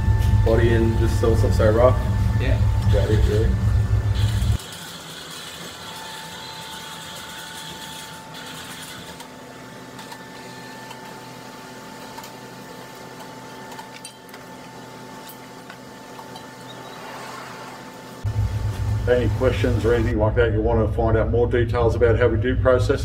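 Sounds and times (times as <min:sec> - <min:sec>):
machine hum with high whine: 0:00.0 - 0:23.0.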